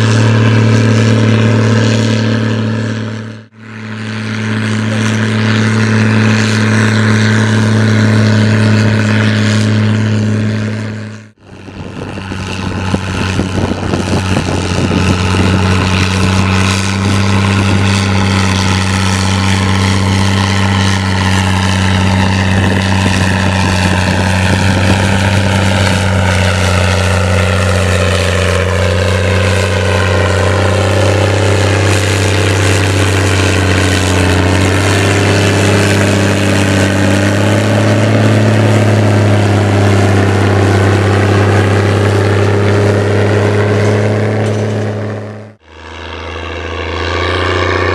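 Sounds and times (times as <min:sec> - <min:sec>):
tractor diesel engine pulling hard: 0:00.0 - 0:47.9.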